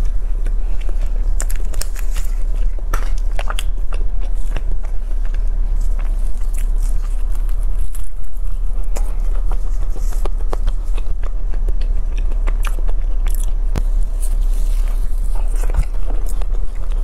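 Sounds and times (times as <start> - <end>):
biting and chewing pastry: 0.0 - 17.0
low hum: 0.0 - 17.0
pastry crackling: 0.0 - 17.0.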